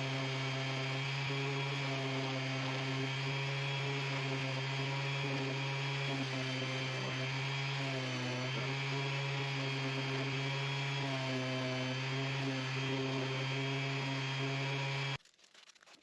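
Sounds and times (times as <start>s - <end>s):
orbital sander on wood: 0.0s - 15.2s.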